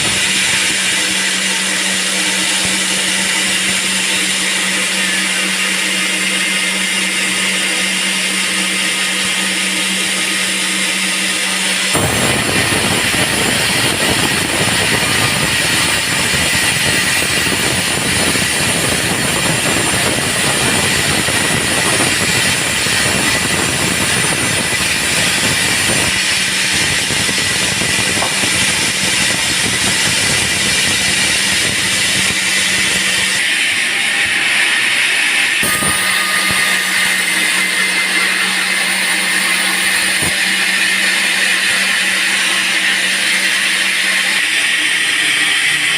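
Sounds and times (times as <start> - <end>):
saw blade cutting log: 0.0 - 45.9
sawmill humming: 0.0 - 45.9.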